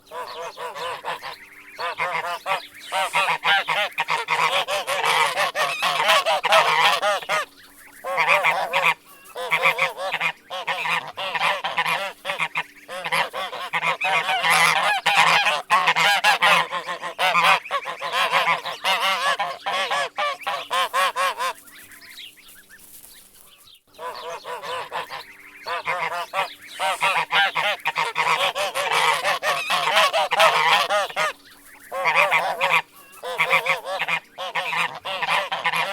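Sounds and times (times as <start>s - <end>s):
geese honking: 0.0s - 22.9s, 23.9s - 35.9s.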